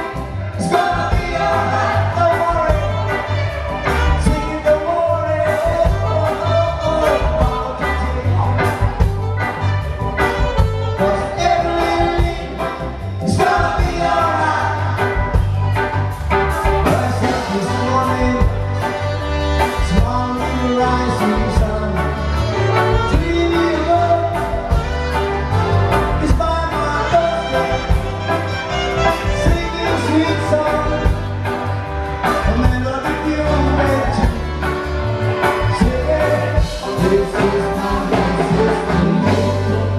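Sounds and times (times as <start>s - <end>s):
person singing: 0.0s - 15.7s, 16.7s - 31.3s, 32.2s - 39.9s
steady drum beat and bass: 0.0s - 39.9s.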